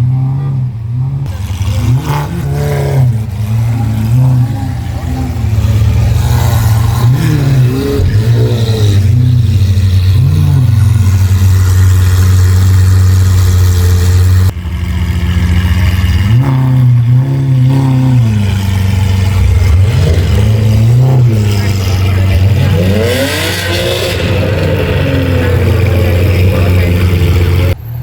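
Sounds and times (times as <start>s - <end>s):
engine revving: 0.0s - 27.8s.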